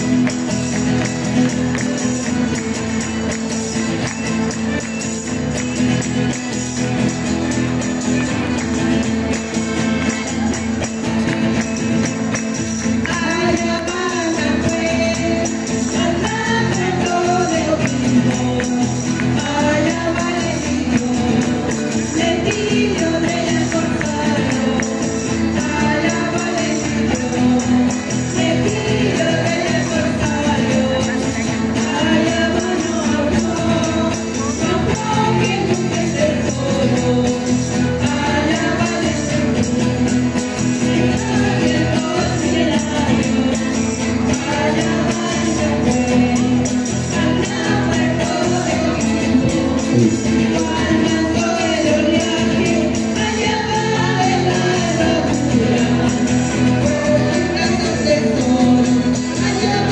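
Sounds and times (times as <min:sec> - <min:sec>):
folk dance music with singing: 0:00.0 - 0:59.9.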